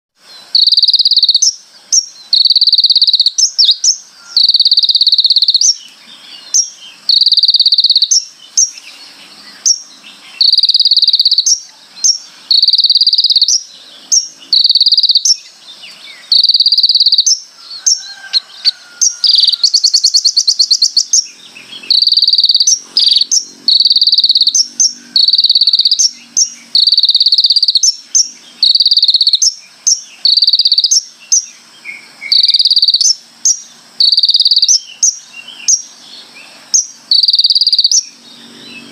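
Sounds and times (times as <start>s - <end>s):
bird singing buzzy phrases: 0.2s - 38.9s
sharp bird chips: 0.3s - 38.9s
rattling bird trill: 0.6s - 5.8s, 6.6s - 8.8s, 10.4s - 15.5s, 16.2s - 31.1s, 32.3s - 35.8s, 36.8s - 38.1s.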